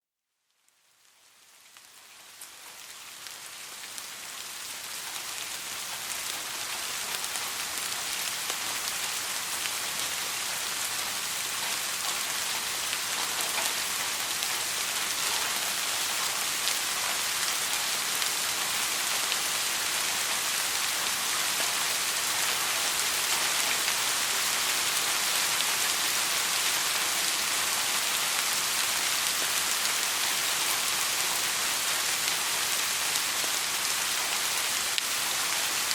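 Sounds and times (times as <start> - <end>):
steady rainfall hiss: 0.5 - 35.9.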